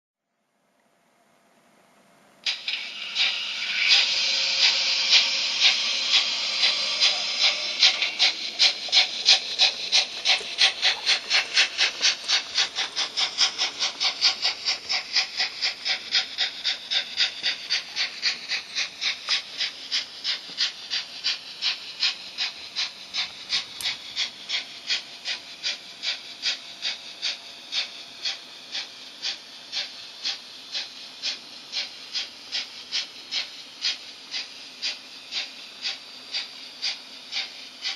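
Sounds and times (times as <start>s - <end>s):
model locomotive steam chuffing: 2.4s - 37.9s
steam hiss: 2.4s - 37.9s.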